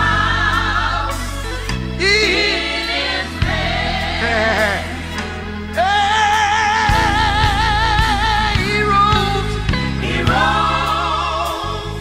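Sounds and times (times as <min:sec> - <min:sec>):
band playing: 0:00.0 - 0:12.0
gospel singing with vibrato: 0:00.0 - 0:12.0.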